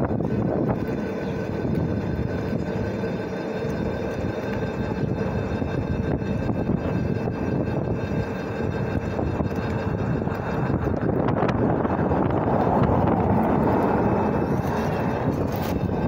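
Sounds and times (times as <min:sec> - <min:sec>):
tyre and wind noise: 0:00.0 - 0:03.1, 0:03.8 - 0:16.0
electric motor whine: 0:00.0 - 0:16.0.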